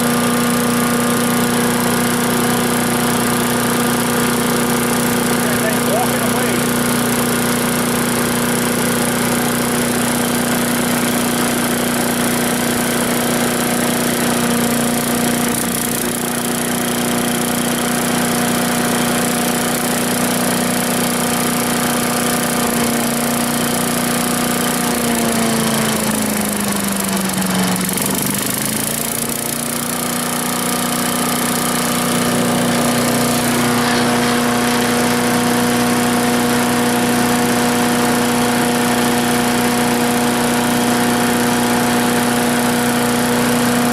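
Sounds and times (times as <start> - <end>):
wood chipper engine running: 0.0 - 43.9.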